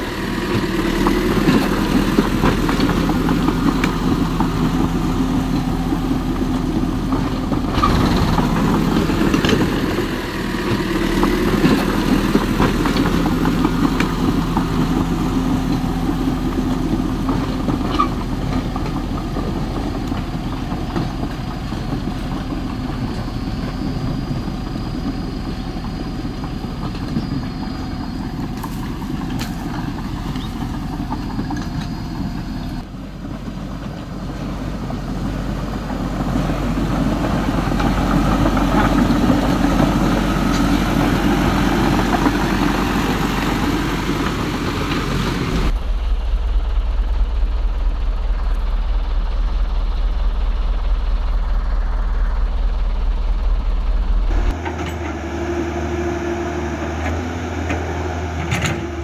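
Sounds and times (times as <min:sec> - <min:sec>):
construction machinery engine idling: 0:00.0 - 0:59.0.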